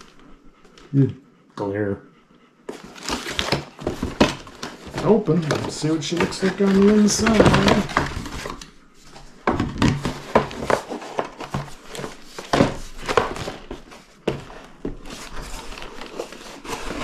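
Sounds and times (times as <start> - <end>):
cardboard box being handled: 2.7 - 17.0.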